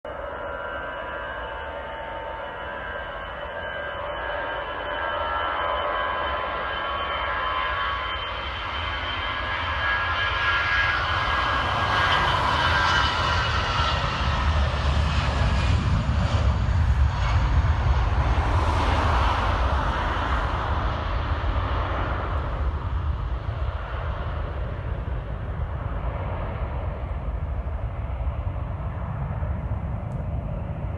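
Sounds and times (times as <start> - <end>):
jet engine whine: 0.0 - 30.9
jet engine deep rumble: 0.1 - 30.9.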